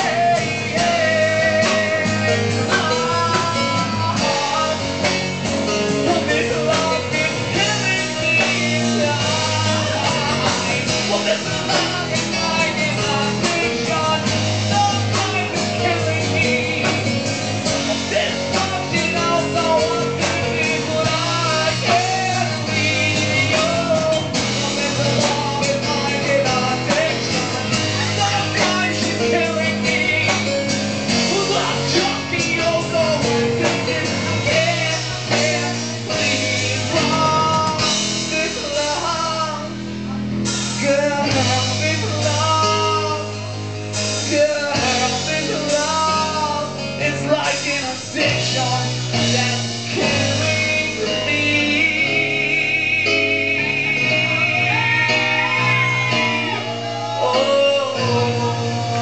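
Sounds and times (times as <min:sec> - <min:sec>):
drums: 0:00.0 - 0:59.0
electric guitar: 0:00.0 - 0:59.0
person singing: 0:00.0 - 0:59.0.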